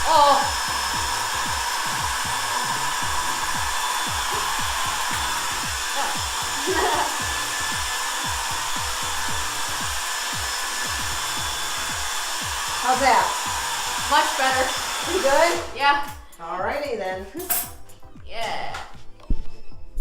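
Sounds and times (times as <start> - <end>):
hair dryer blowing: 0.0 - 16.2
background music with bass beat: 0.0 - 20.0.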